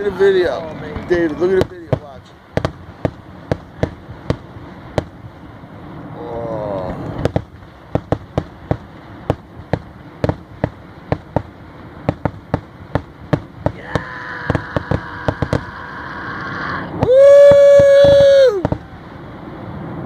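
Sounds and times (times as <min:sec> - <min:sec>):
fireworks bangs: 0:00.0 - 0:16.0, 0:16.9 - 0:19.5.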